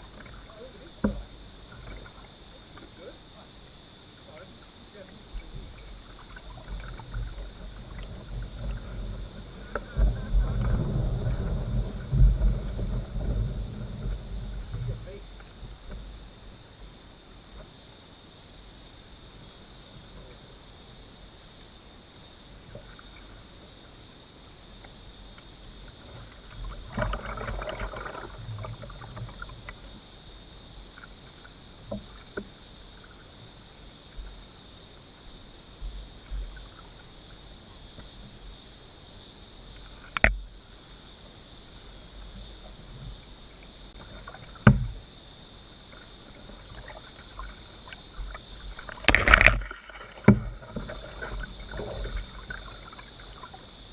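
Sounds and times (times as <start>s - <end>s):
kayak paddle splashing in water: 0.0s - 3.4s, 4.2s - 16.2s, 22.5s - 38.4s, 39.6s - 45.2s, 45.8s - 53.9s
cicadas droning: 0.0s - 53.9s.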